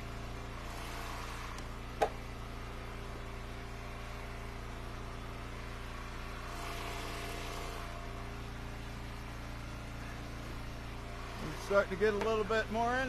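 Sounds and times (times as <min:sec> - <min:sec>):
wood splitter engine running: 0:00.0 - 0:13.0.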